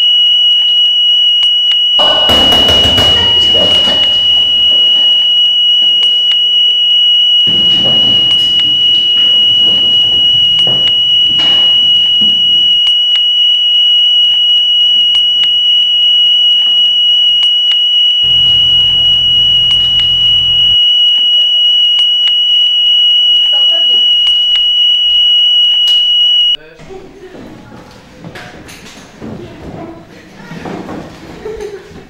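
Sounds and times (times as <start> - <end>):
high-pitched electronic alarm tone: 0.0 - 26.6.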